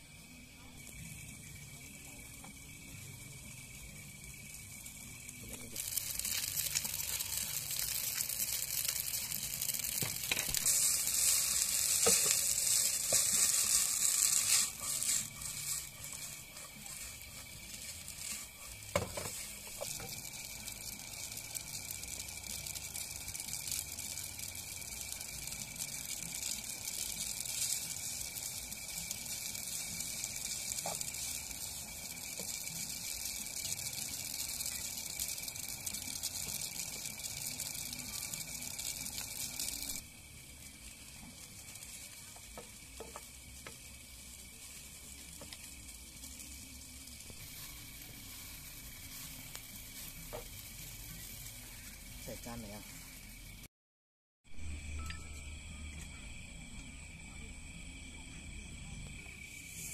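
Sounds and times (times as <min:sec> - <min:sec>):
food sizzling in a frying pan: 0:00.0 - 0:53.7, 0:54.4 - 0:59.9.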